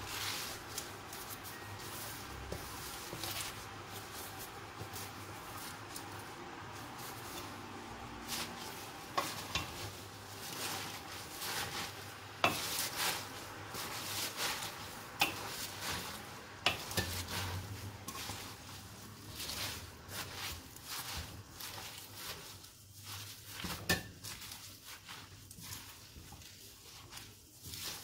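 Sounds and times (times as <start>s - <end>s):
leaves rustling: 0.0s - 28.0s
pan sizzling: 0.0s - 28.0s.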